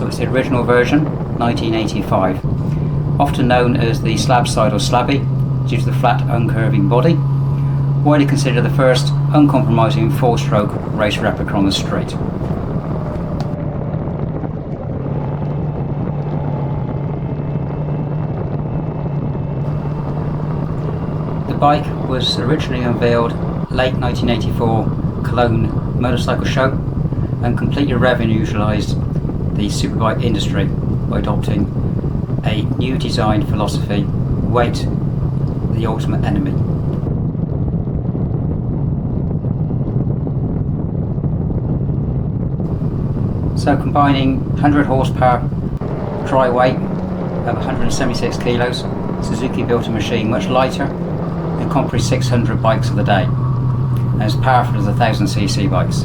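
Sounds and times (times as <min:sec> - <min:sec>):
motorcycle engine cruising: 0:00.0 - 0:37.1, 0:42.6 - 0:56.0
wind buffeting microphone: 0:00.0 - 0:56.0.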